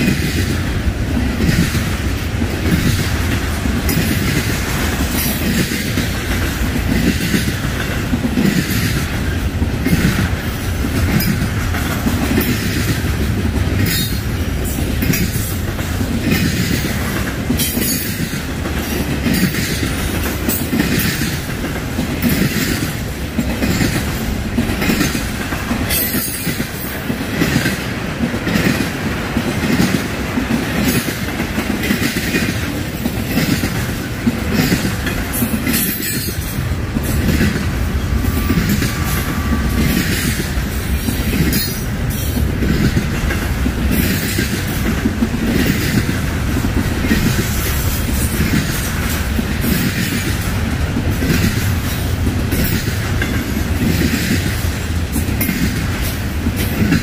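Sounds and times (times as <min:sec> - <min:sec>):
freight train rumbling past: 0:00.0 - 0:57.0
wheels clacking over rail joints: 0:00.0 - 0:57.0.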